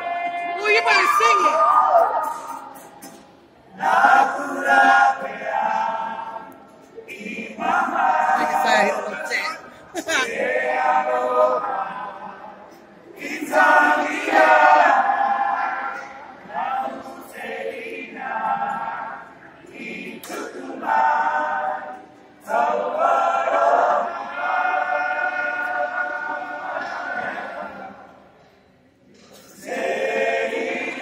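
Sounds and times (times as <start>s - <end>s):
boys singing unaccompanied: 3.7s - 28.0s, 29.5s - 31.0s.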